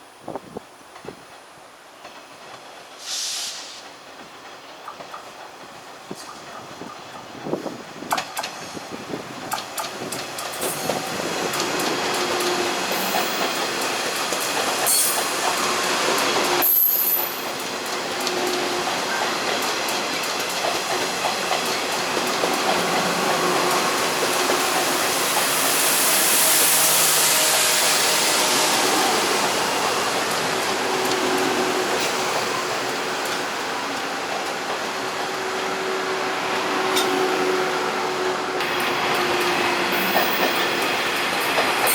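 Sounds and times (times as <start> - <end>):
train rumble: 0.0 - 41.9
train wheels clicking over rail joints: 0.9 - 37.3, 38.6 - 41.9.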